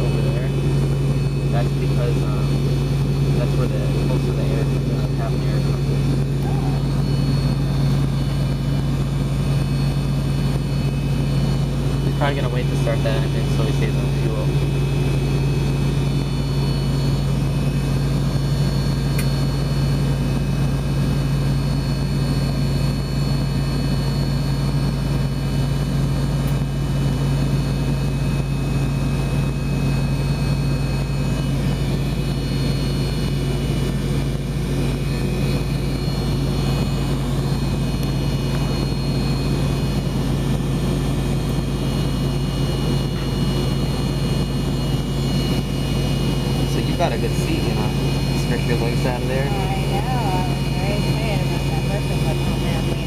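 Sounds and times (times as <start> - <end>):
high whining tones: 0.0 - 20.7, 28.4 - 53.0
jet engine idling low hum: 0.0 - 53.0.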